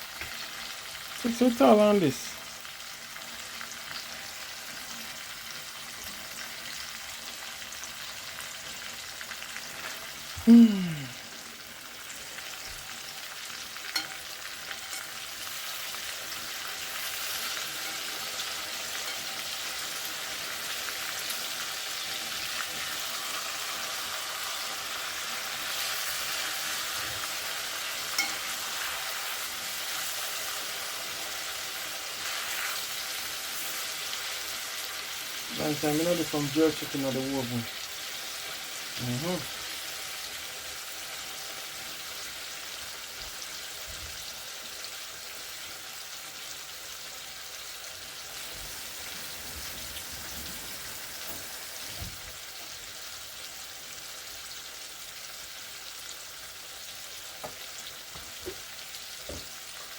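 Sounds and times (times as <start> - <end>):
food frying in hot oil: 0.0 - 59.9.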